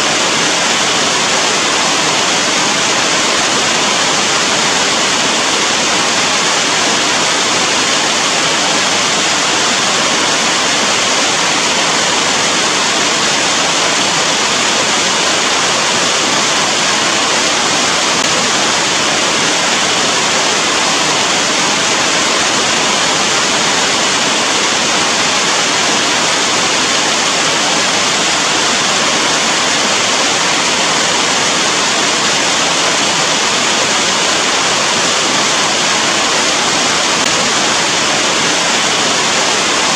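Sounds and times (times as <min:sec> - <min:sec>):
dense rain hissing: 0:00.0 - 0:39.9.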